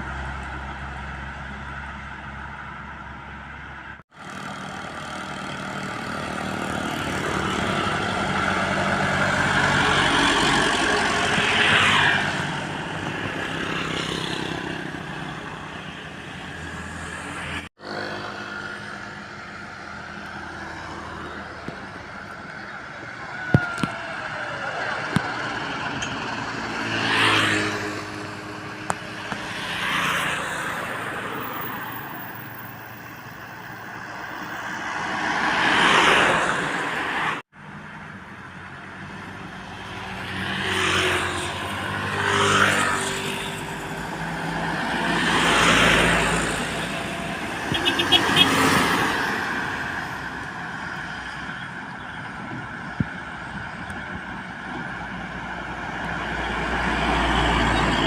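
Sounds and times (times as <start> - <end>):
heavy trucks passing by: 0.0 - 58.0.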